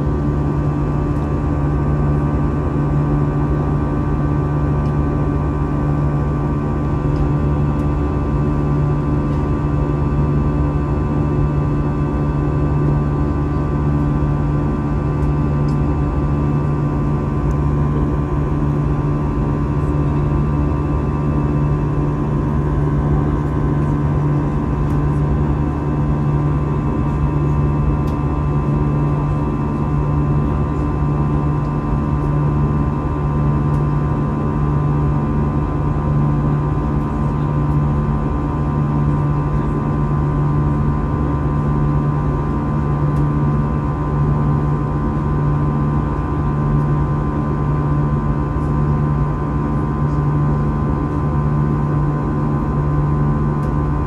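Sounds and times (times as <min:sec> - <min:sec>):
jet engines in cabin: 0:00.0 - 0:54.0.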